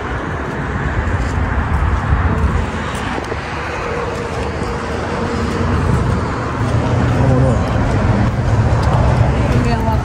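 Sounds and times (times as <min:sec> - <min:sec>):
traffic rumble: 0:00.0 - 0:10.0.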